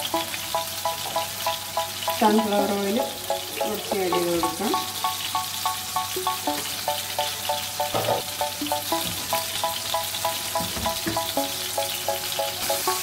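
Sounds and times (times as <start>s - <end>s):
background music of repeated notes: 0.0s - 13.0s
chicken sizzling in oil: 0.0s - 13.0s.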